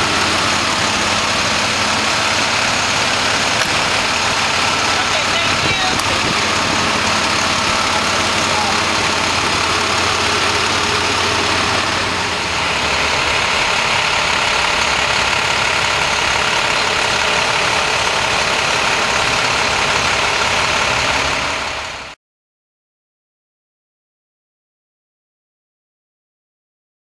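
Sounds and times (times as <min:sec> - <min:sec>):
vehicle engine idling: 0:00.0 - 0:22.2.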